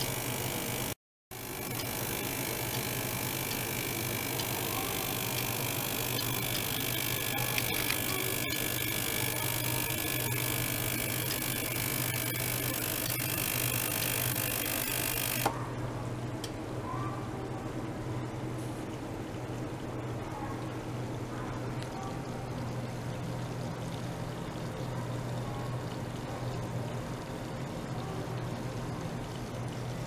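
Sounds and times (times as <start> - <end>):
water flowing through tubing: 0.0 - 15.5, 17.8 - 30.0
pump humming: 0.0 - 16.4, 17.6 - 30.0.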